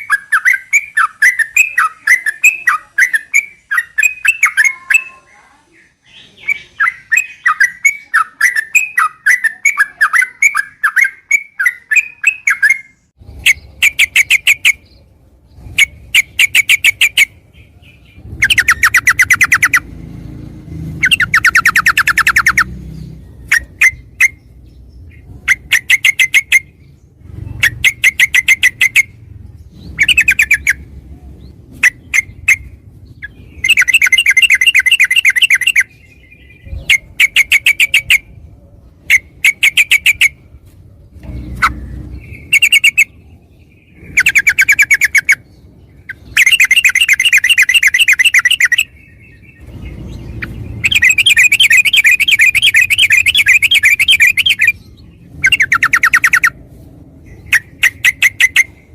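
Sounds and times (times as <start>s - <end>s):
bulbul singing chattering notes: 0.0s - 5.3s, 6.1s - 40.5s, 41.2s - 56.6s, 57.3s - 58.9s.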